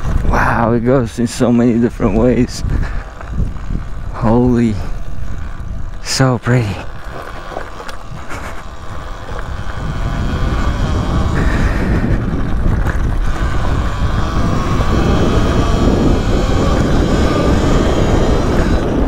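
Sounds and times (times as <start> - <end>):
dirt bike tyre and drive noise: 0.0 - 19.0
wind buffeting microphone: 0.0 - 19.0.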